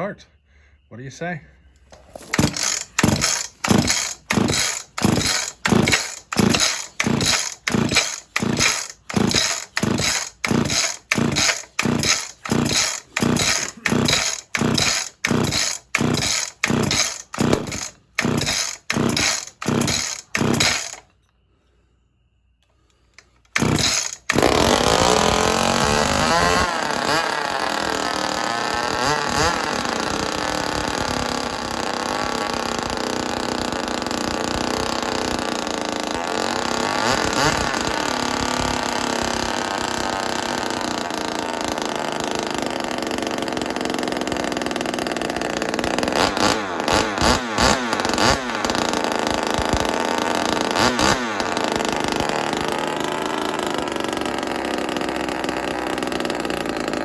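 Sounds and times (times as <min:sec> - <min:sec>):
chainsaw starting and revving: 0:01.9 - 0:21.1, 0:23.2 - 0:57.0
chainsaw throttle blips: 0:01.9 - 0:21.1, 0:23.2 - 0:57.0.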